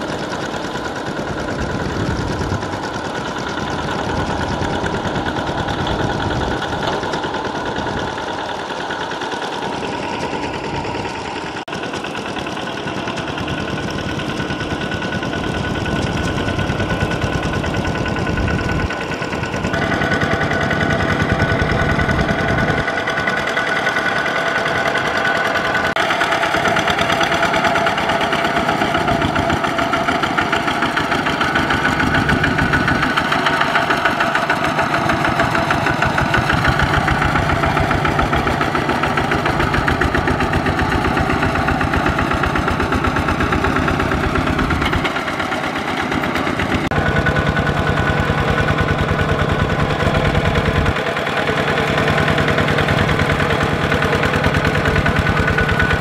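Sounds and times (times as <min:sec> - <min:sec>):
diesel tiller engine running: 0:00.0 - 0:56.0.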